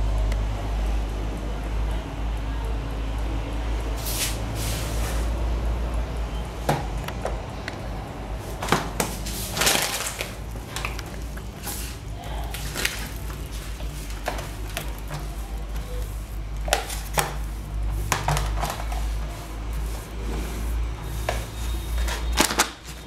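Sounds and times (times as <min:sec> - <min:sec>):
steady low hum: 0:00.0 - 0:22.4.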